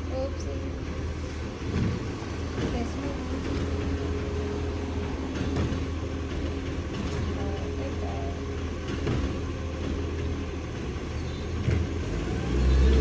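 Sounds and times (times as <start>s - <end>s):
garbage truck engine rumbling: 0.0s - 13.0s.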